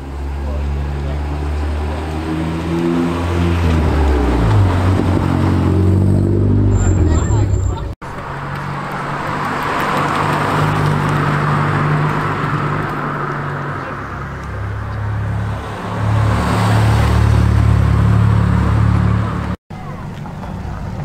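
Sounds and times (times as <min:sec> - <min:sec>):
cars driving past humming: 0:00.0 - 0:19.6.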